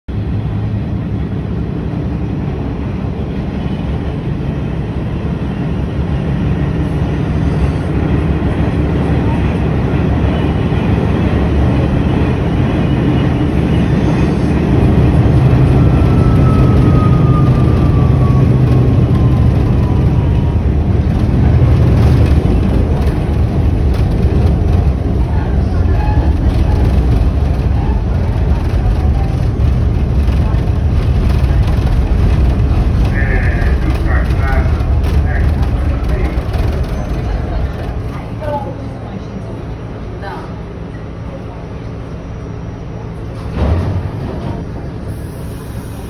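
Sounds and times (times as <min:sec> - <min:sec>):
subway train rumble: 0:00.0 - 0:46.0.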